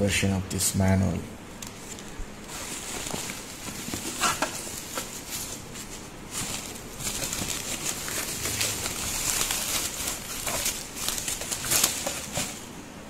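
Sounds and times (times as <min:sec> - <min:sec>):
bubble wrap crinkling: 0:01.6 - 0:12.8.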